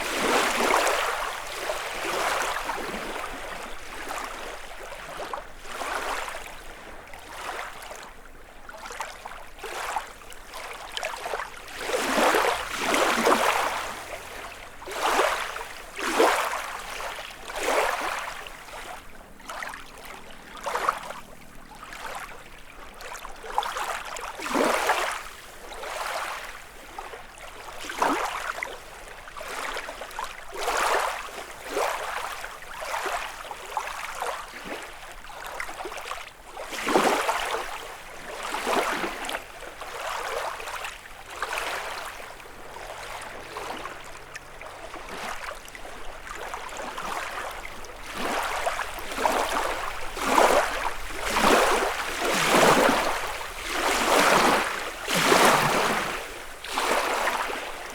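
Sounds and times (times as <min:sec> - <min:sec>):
water splashes: 0:00.0 - 0:08.1, 0:08.7 - 0:57.9
lake waves lapping on shore: 0:00.0 - 0:57.9.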